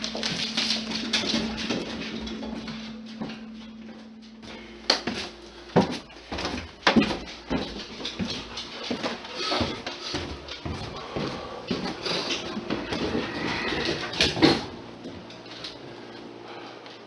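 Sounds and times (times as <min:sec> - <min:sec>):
footsteps on stairs: 0:00.0 - 0:17.0
steady low hum: 0:00.0 - 0:17.0.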